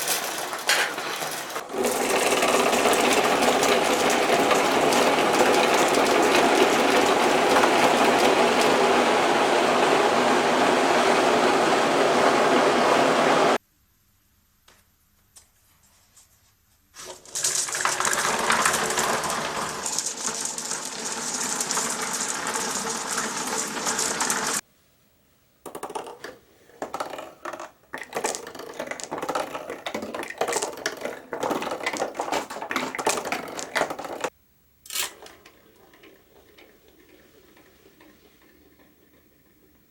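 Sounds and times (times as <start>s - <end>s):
marbles rolling and clacking: 0.0s - 13.2s, 17.1s - 24.6s, 25.6s - 39.9s.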